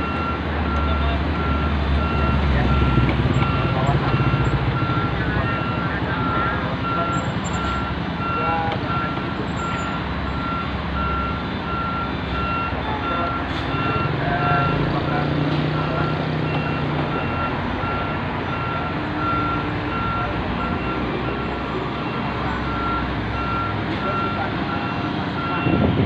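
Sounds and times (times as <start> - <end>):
back-up alarm beeping: 0.0 - 14.8, 15.8 - 25.8.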